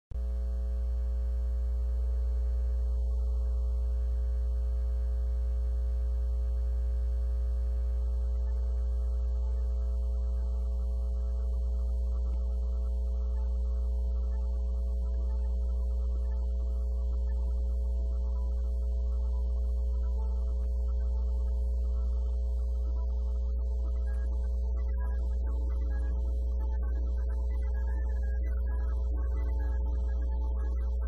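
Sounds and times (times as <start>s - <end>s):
electrical mains hum: 0.1s - 31.0s.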